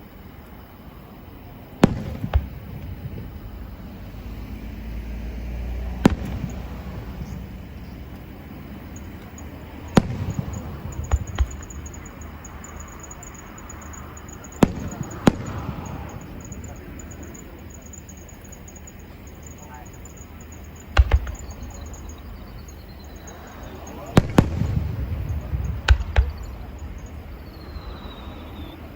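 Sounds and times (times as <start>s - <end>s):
fireworks bangs: 1.1s - 28.9s
low rumbling echo: 1.8s - 18.2s, 18.8s - 28.9s.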